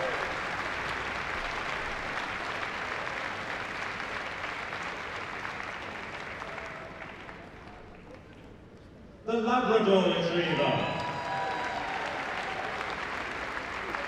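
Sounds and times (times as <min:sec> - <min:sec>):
large audience applauding: 0:00.0 - 0:08.6, 0:10.6 - 0:14.0.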